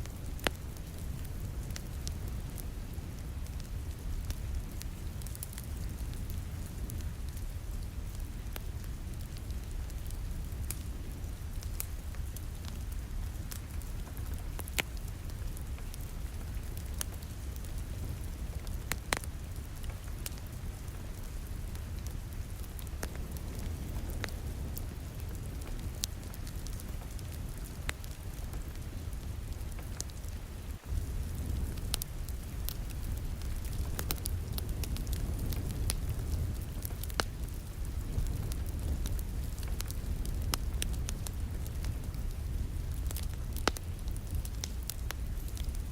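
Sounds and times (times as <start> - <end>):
sharp pops from fire: 0.0 - 7.5, 8.1 - 45.9
wood fire crackling: 0.0 - 45.9.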